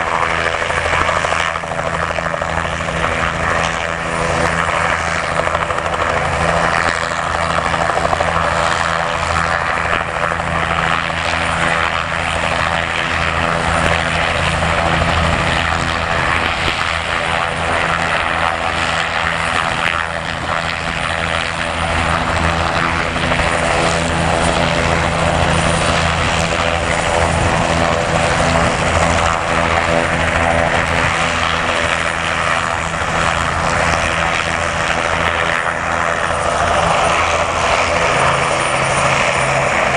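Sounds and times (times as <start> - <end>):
helicopters flying low: 0.0 - 39.9.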